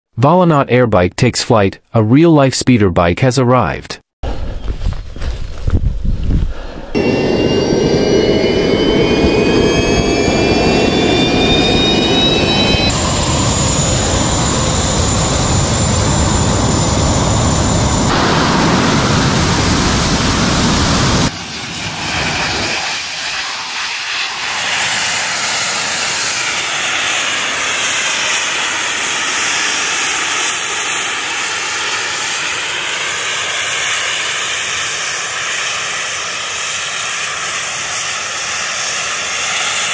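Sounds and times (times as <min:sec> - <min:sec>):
jet engines with high whine: 0:06.4 - 0:39.9.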